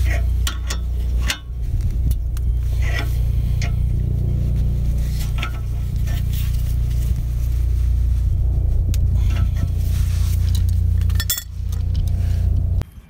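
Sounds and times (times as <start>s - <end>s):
metal tools clinking: 0.0s - 7.4s, 9.1s - 12.2s
low steady rumble: 0.0s - 12.8s.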